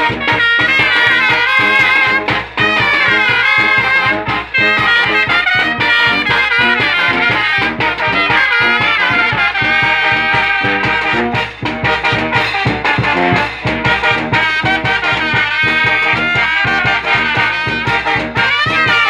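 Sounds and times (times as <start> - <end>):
brass band playing: 0.0 - 19.0.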